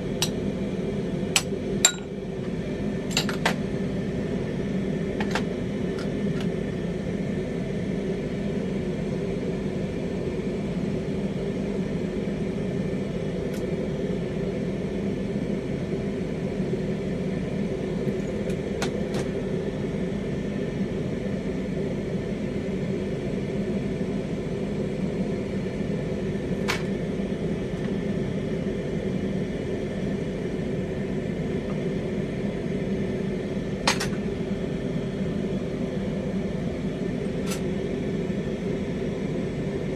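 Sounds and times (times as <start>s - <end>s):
bench torch burning: 0.0s - 39.9s.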